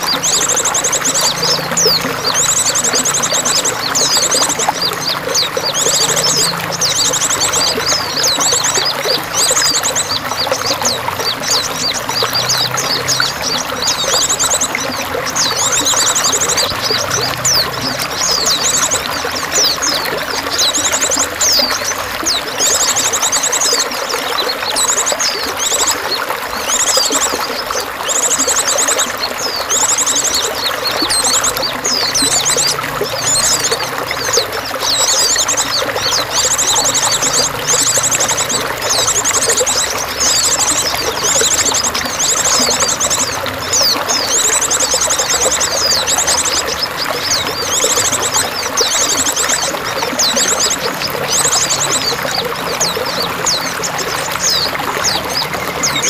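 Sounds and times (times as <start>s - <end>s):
songbirds calling: 0.0s - 56.0s
water pouring and trickling: 0.0s - 56.0s.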